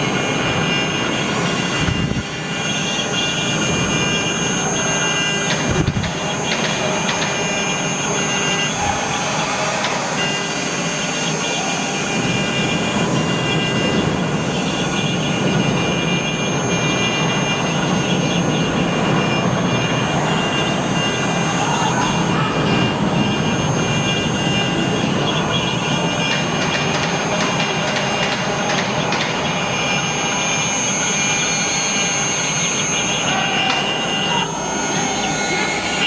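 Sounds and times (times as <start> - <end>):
spindle high whine: 0.0 - 36.0.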